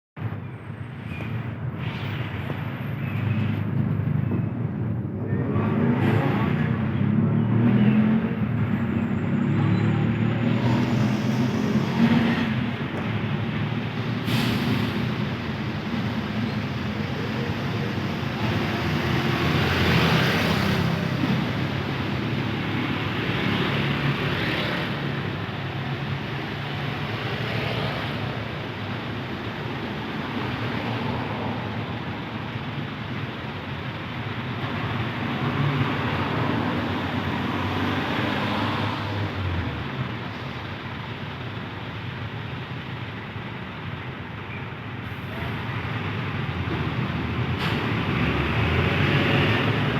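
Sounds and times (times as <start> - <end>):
truck engines running: 0.2 - 49.9
vehicles passing on highway: 0.2 - 49.9.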